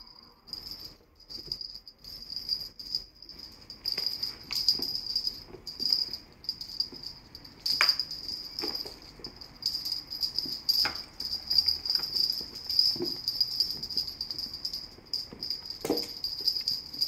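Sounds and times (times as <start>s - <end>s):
small bells jingling: 0.0s - 17.0s.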